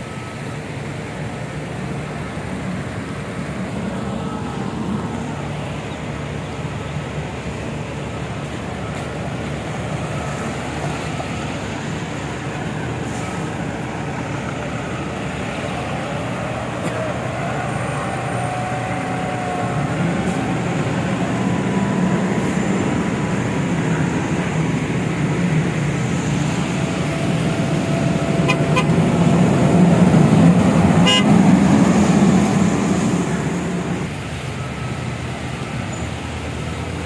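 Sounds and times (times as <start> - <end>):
tyres hissing on wet road: 0.0 - 37.0
vehicle engines running: 0.0 - 37.0.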